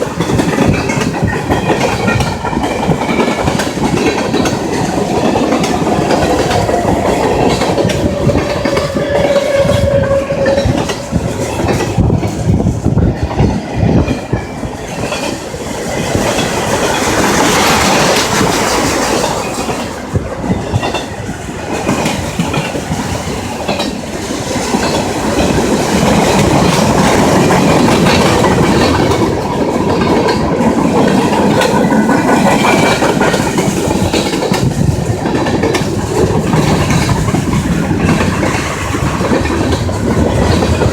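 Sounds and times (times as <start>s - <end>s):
train wheel squeal: 0.0s - 40.9s
train wheels clacking over rail joints: 0.0s - 40.9s.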